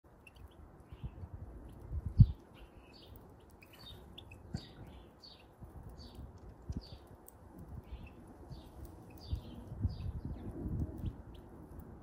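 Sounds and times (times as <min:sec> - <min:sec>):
small birds twittering: 0:00.1 - 0:12.0.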